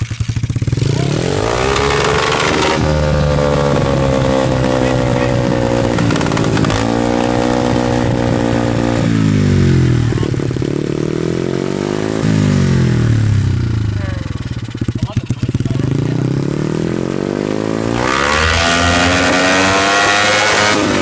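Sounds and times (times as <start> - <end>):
small motorbike engine revving: 0.0 - 21.0.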